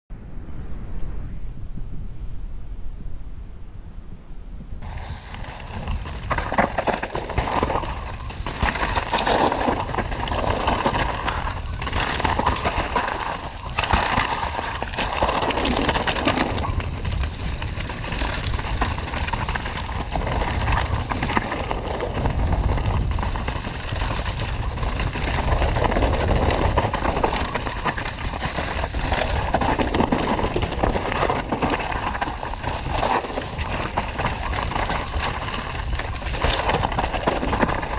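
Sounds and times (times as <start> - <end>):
bike tyres rumbling: 0.1 - 37.9
wind on microphone: 0.1 - 37.9
bike rattling over rocks: 4.8 - 37.9.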